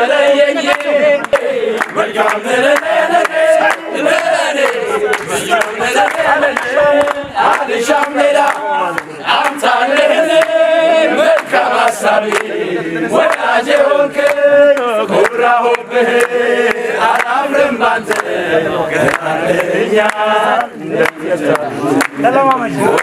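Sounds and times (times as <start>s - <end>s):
men singing in unison: 0.0s - 23.0s
rhythmic hand clapping: 0.0s - 23.0s.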